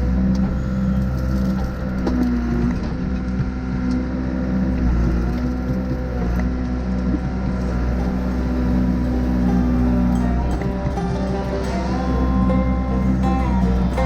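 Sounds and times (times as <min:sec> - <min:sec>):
backhoe diesel engine running: 0:00.0 - 0:14.0.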